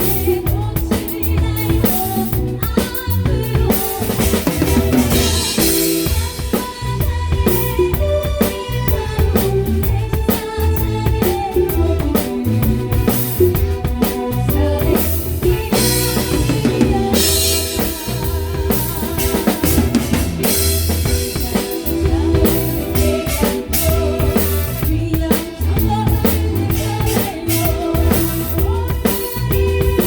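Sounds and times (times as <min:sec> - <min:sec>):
drum kit beat: 0:00.0 - 0:30.0
guitar: 0:00.0 - 0:30.0
keyboard: 0:00.0 - 0:30.0.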